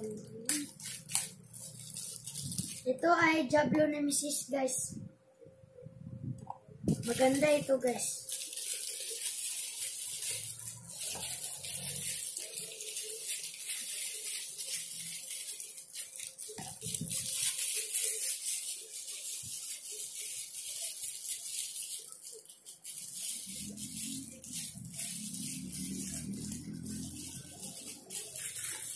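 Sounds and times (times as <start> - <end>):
plastic packaging rustling: 0.0 - 3.0, 6.8 - 28.9.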